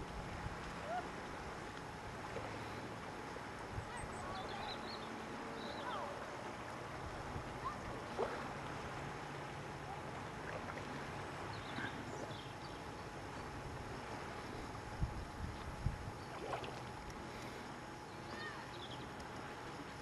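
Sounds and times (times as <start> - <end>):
low steady hum: 0.0 - 20.0
water: 0.0 - 20.0
wind: 0.0 - 20.0.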